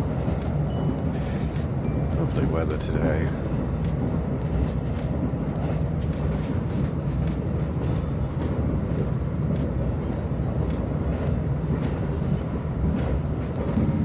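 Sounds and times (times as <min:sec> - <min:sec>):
faint clicks of train wheels: 0:00.0 - 0:09.8, 0:10.4 - 0:14.0
train rumbling on track: 0:00.0 - 0:14.0.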